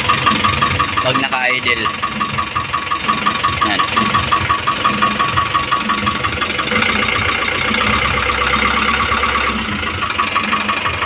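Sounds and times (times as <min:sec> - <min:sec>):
diesel engine idling: 0:00.0 - 0:11.0
engine knock tapping: 0:00.0 - 0:11.0.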